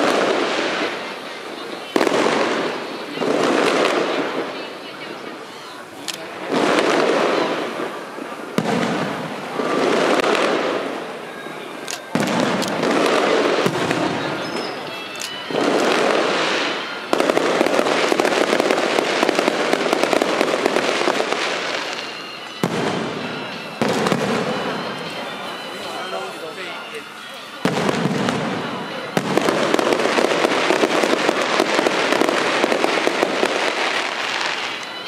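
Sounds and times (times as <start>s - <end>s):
fireworks bangs and crackling: 0.0s - 35.0s.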